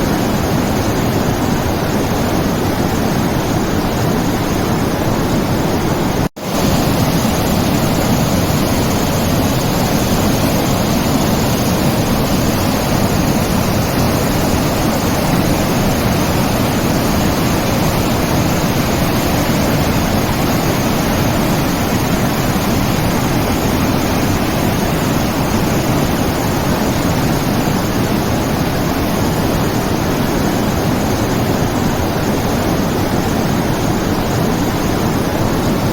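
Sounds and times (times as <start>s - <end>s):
steady rushing noise: 0.0s - 35.9s.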